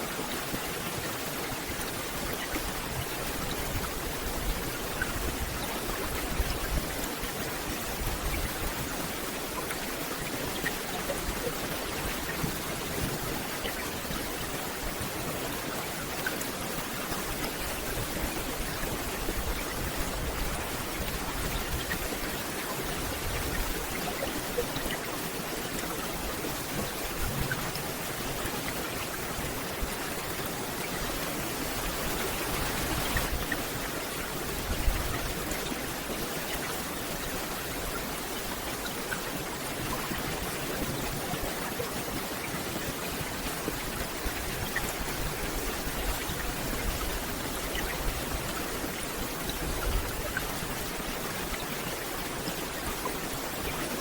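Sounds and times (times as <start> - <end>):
rain falling through forest canopy: 0.0 - 54.0.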